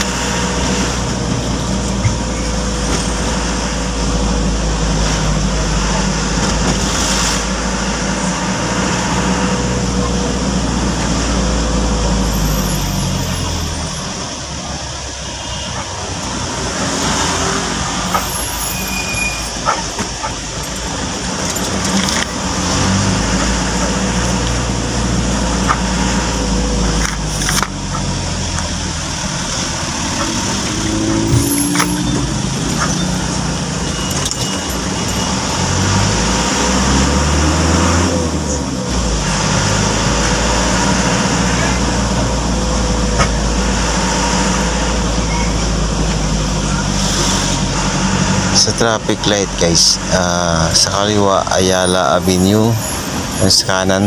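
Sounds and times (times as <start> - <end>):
car engine: 0.0 - 54.0
road noise: 0.0 - 54.0.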